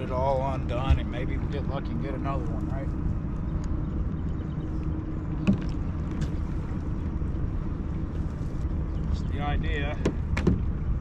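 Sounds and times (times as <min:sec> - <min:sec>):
low rumble of river: 0:00.0 - 0:11.0.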